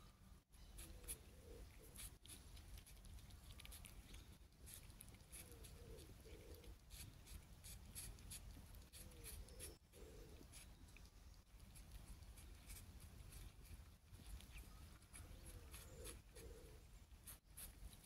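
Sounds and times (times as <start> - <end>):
kittens eating from paper: 0.6 - 18.0.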